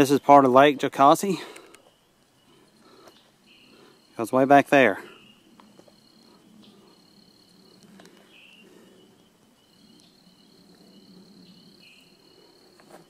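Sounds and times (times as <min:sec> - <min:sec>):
short insect chirps: 0:01.4 - 0:13.0
high-pitched insect trilling: 0:01.8 - 0:12.8.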